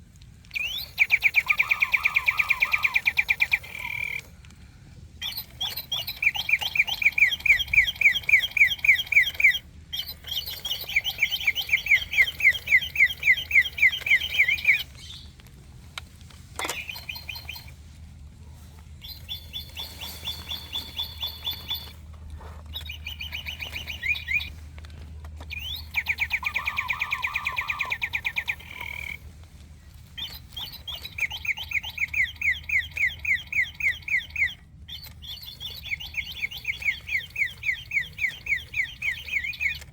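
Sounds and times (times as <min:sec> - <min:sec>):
electronic bird chirping: 0:00.6 - 0:04.3, 0:05.2 - 0:15.0, 0:16.6 - 0:17.8, 0:19.0 - 0:22.0, 0:22.7 - 0:24.6, 0:25.5 - 0:29.2, 0:30.1 - 0:39.9.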